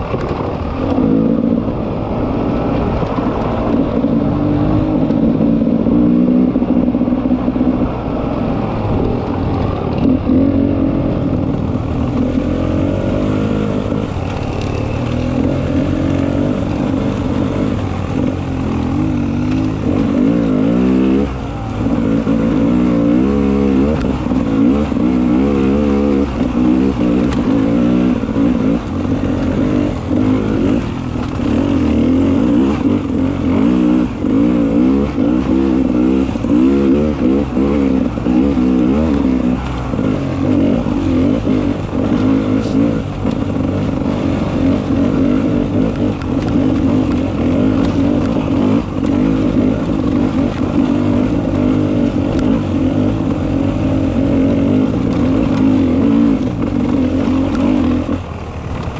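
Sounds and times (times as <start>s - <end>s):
two-stroke motorcycle engine revving: 0.0s - 58.9s.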